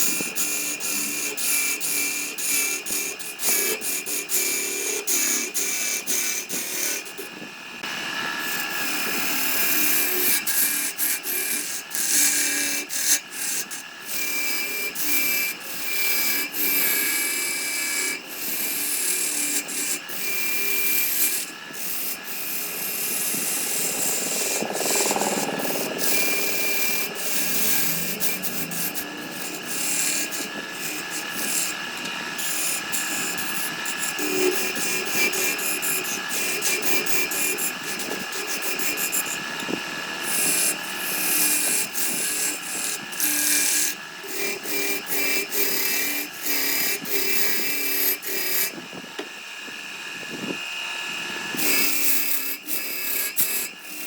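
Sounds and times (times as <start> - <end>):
tool rasping on wood: 0.0 - 48.8, 51.5 - 54.0.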